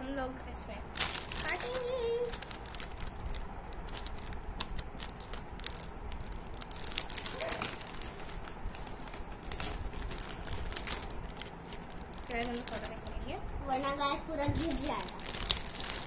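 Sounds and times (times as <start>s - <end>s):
plastic bag crinkling: 0.9s - 13.4s, 14.4s - 16.0s.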